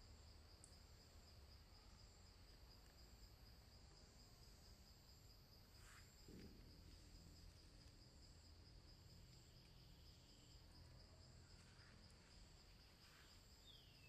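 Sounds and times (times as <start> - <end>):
crickets trilling: 0.2 - 14.0.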